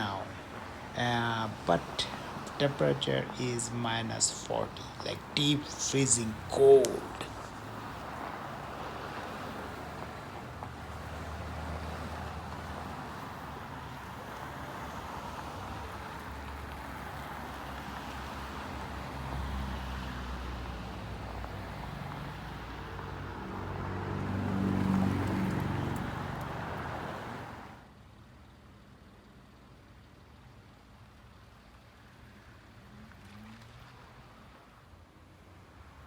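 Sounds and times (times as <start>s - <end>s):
hum of passing cars: 0.0s - 36.0s.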